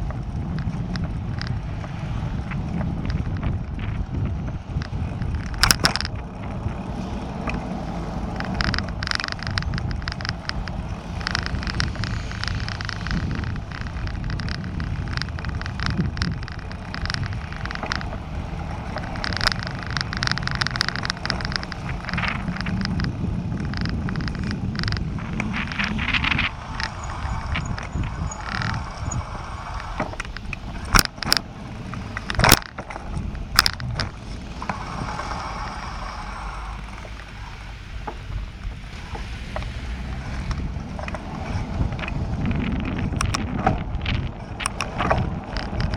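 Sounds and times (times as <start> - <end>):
bicycle rattling and ticking: 0.0 - 45.9
road traffic passing: 0.0 - 45.9
wind rumble on microphone: 0.0 - 45.9.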